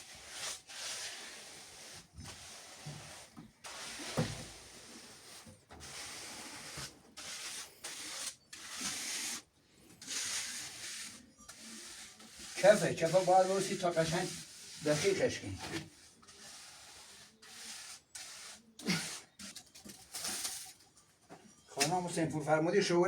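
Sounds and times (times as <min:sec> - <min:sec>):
metal tool scraping wet mortar: 0:00.0 - 0:20.7.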